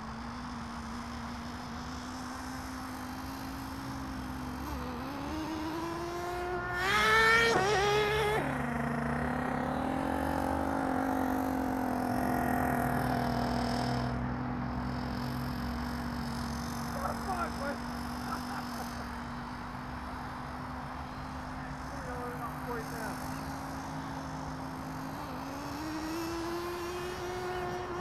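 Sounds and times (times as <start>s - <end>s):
toy truck motor revving: 0.0s - 14.2s, 14.8s - 28.0s.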